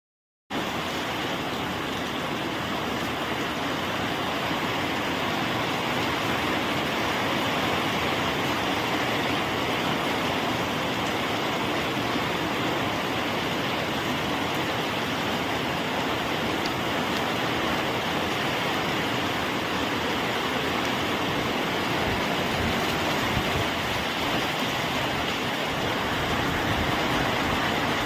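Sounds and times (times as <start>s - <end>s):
rain on a tin roof: 0.5s - 28.0s.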